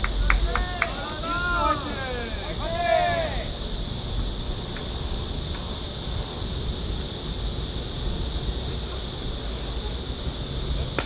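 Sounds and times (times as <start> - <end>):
insects droning: 0.0 - 11.0
wind rumble on microphone: 0.0 - 11.0.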